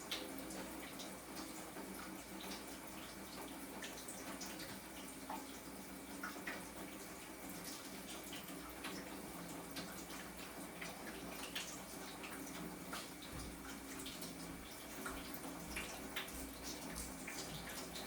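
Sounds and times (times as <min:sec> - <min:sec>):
faint water trickle: 0:00.0 - 0:18.0
water dripping: 0:00.0 - 0:18.0.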